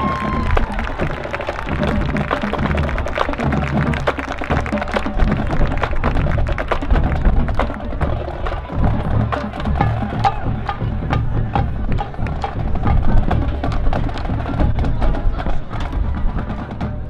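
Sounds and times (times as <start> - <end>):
bass drums: 0.0 - 17.0.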